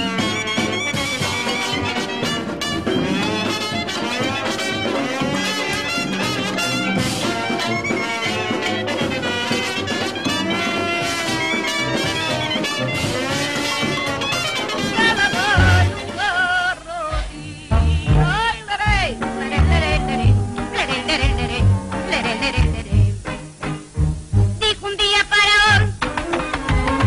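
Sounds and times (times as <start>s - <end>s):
big-band brass music: 0.0s - 24.6s.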